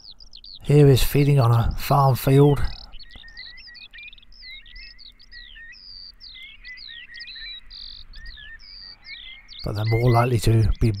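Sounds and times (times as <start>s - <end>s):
birds chirping and whistling: 0.0s - 11.0s.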